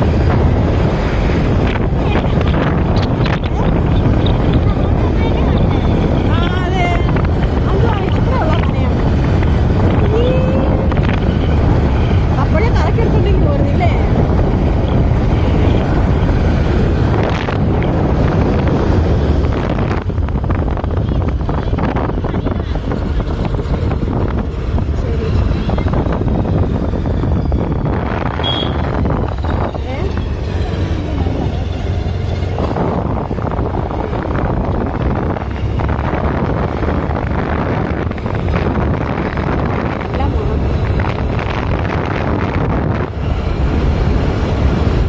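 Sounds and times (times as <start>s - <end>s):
large truck passing: 0.0s - 45.0s
motorcycle engine and road rumble: 0.0s - 45.0s
wind buffeting microphone: 0.0s - 45.0s.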